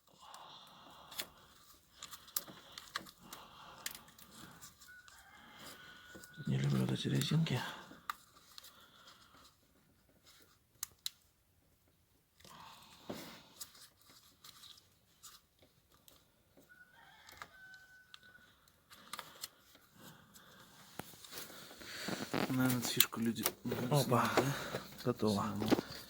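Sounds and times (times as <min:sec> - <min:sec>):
faint clicks and rustles: 0:00.0 - 0:26.0.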